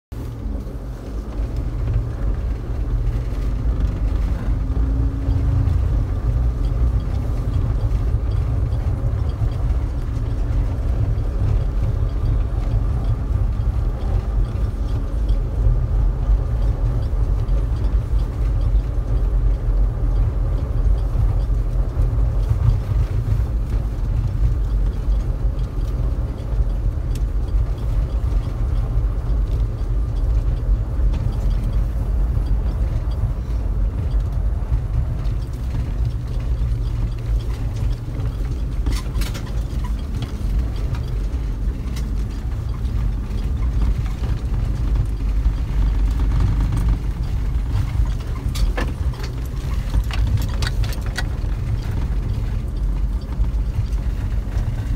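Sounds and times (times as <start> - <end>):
vehicle engine low rumble: 0.1 - 54.9.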